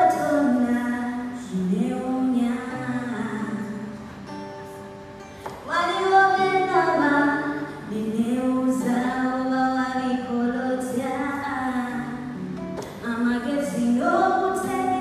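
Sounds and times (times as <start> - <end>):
song with female vocal: 0.0 - 4.0, 5.4 - 12.4, 13.0 - 15.0.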